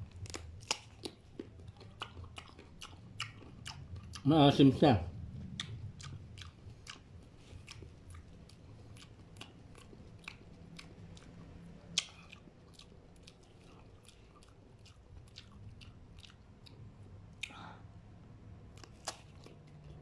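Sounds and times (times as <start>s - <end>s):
person chewing with crunches: 0.0s - 4.8s, 5.4s - 17.7s, 18.7s - 20.0s.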